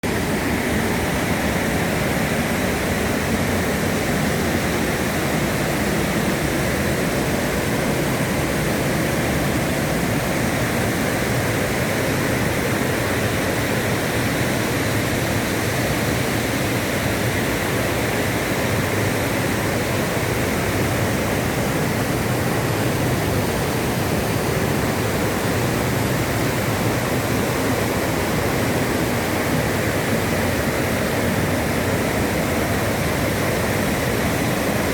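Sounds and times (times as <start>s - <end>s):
waterfall roaring: 0.0s - 34.9s.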